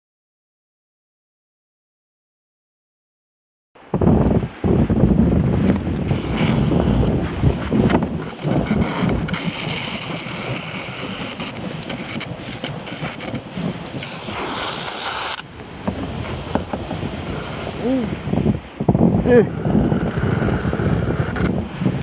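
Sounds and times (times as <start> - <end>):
kayak hull hissing through snow: 3.9 - 22.0.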